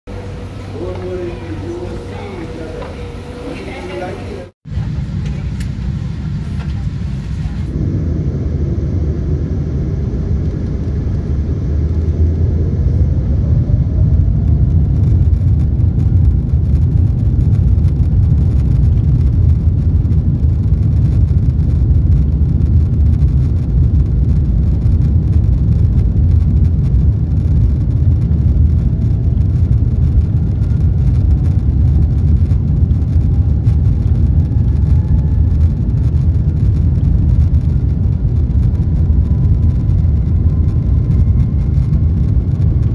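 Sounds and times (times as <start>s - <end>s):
engine rumble on takeoff roll: 0.1s - 42.9s
jet engines spooling up: 0.1s - 42.9s.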